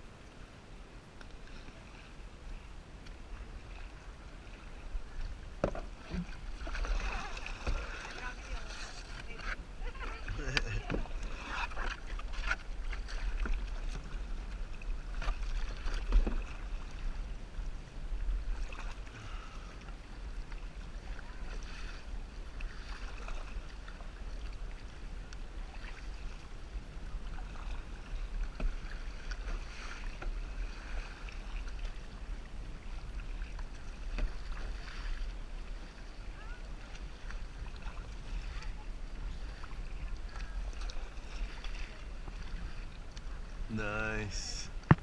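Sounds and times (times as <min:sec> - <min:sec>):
paddle splashing in water: 0:03.0 - 0:43.8.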